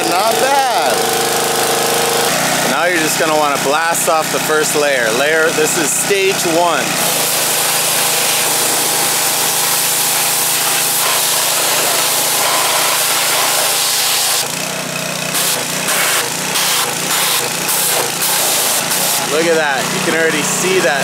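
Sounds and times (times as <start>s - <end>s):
power washer jet spraying water: 0.0s - 21.0s.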